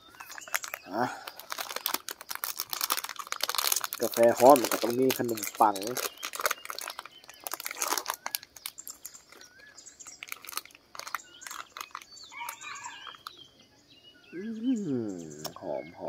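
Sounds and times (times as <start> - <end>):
plastic wrapper crinkling: 0.0 - 13.4
bird chirping: 0.0 - 16.0.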